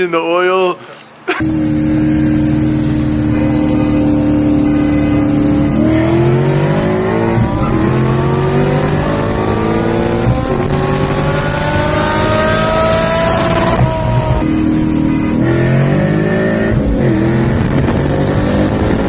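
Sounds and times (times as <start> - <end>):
car engine accelerating hard: 1.4 - 19.0.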